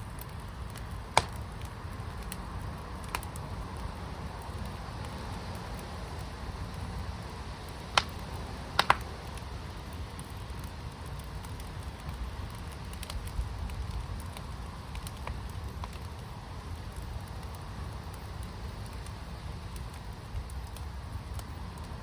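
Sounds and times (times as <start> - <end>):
low rumble of fire: 0.0 - 22.0
sharp pops of fire: 0.0 - 22.0
wood fire crackling: 0.0 - 22.0.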